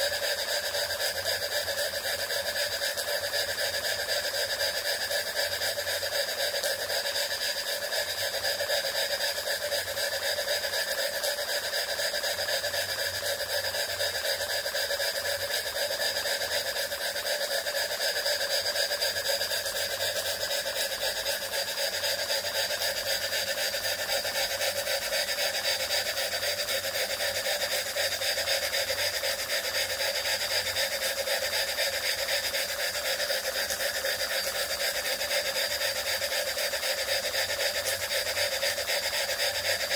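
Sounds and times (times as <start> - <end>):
steam engine ticking and rattling: 0.0 - 39.9.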